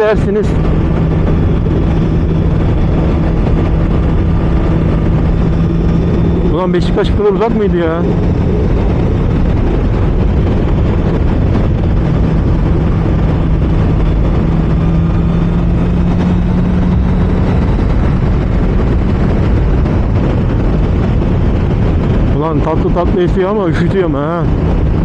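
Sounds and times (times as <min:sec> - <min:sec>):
motorcycle engine cruising: 0:00.0 - 0:25.0
wind and road noise: 0:00.0 - 0:25.0.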